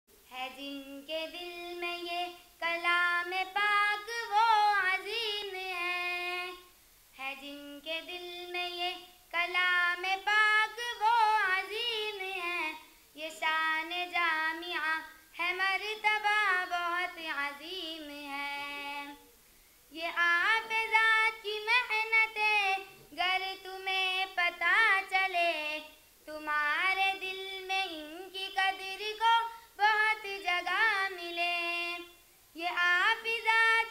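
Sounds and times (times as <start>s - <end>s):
girl singing unaccompanied: 0.1s - 33.9s.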